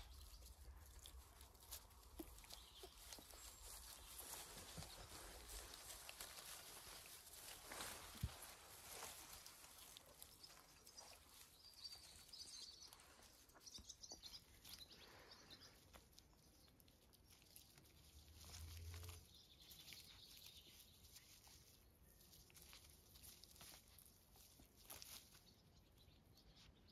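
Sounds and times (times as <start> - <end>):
faint bird chirps: 0.0 - 23.8, 24.4 - 26.9
puppies rustling in leaves: 0.0 - 26.6.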